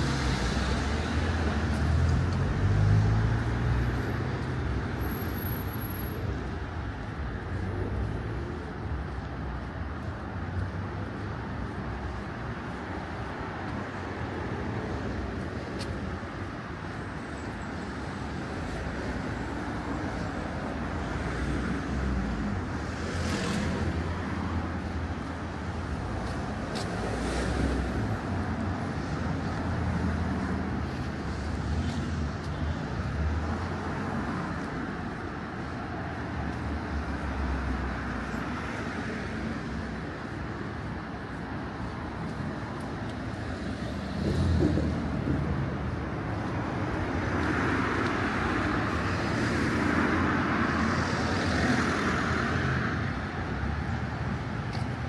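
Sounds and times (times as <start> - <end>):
cars passing on road: 0.0 - 55.0.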